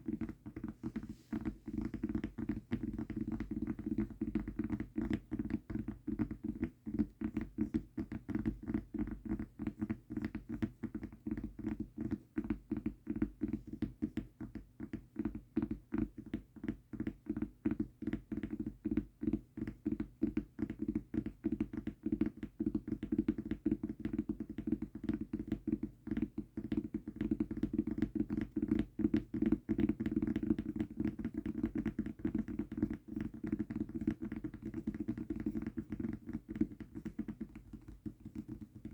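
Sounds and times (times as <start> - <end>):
fingertips tapping on mousepad: 0.0 - 38.9.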